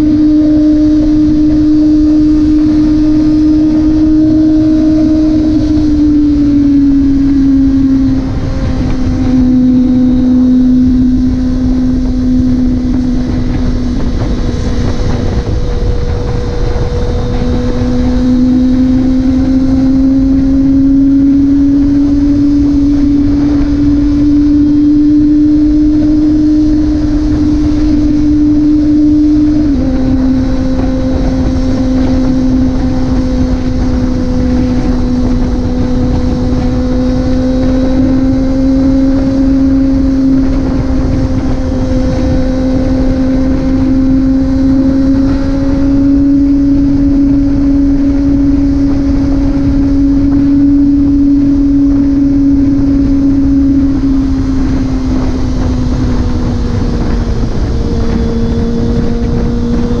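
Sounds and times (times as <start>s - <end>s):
motorcycle engine cruising: 0.0s - 60.0s
wind noise: 0.0s - 60.0s.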